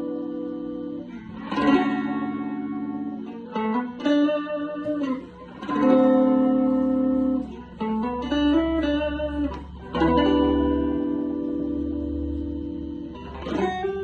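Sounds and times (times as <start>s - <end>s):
guitar playing slow single notes: 0.0s - 14.0s.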